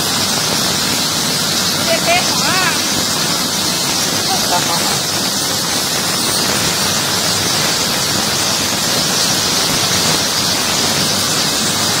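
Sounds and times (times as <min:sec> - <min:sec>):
ultrasonic tank hissing: 0:00.0 - 0:12.0.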